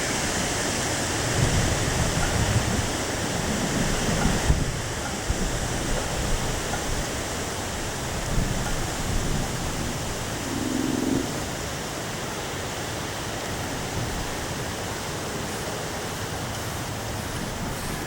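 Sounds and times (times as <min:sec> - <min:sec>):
heavy rain hissing: 0:00.0 - 0:18.0
strong wind: 0:00.0 - 0:18.0.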